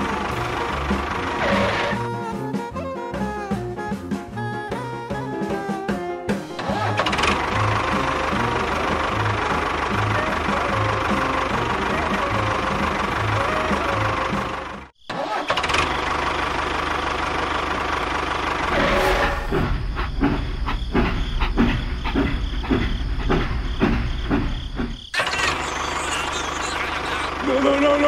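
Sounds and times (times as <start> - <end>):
tractor engine chugging: 0.0 - 3.6, 6.5 - 28.0.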